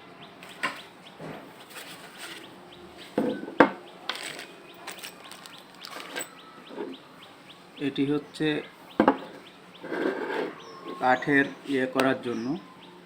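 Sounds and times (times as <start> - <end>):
faint bird calls: 2.2 - 13.0.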